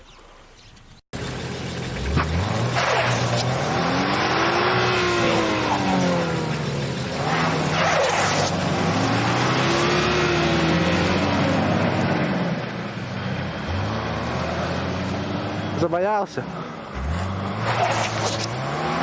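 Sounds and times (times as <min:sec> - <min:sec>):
vehicle engine revving: 0:01.2 - 0:19.0.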